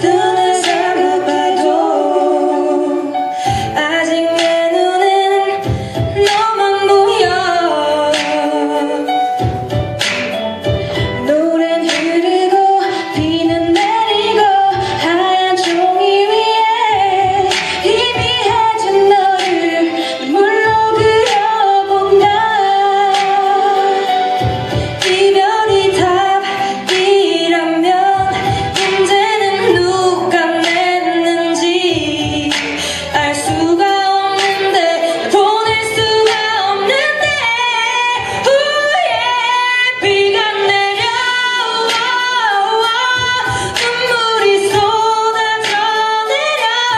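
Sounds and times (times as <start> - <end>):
two women singing a duet: 0.0 - 46.9.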